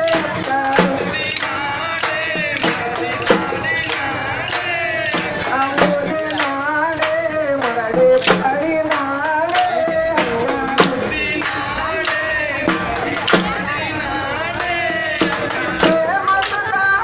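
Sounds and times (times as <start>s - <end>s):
person singing: 0.0s - 17.0s
sharp percussive beats: 0.0s - 17.0s.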